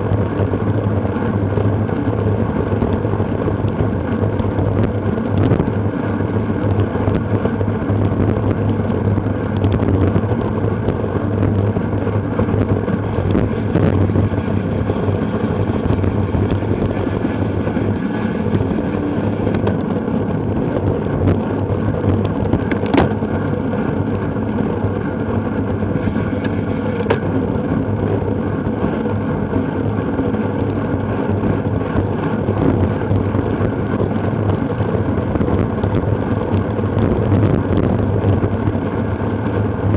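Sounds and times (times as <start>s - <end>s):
bicycle road noise: 0.0s - 39.9s
wind rush: 0.0s - 39.9s.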